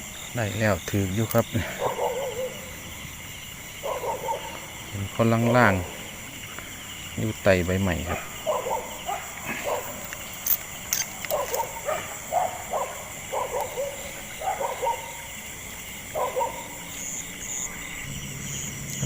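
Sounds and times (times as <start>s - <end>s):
dogs barking: 1.5s - 6.4s, 7.9s - 10.4s, 11.1s - 19.0s.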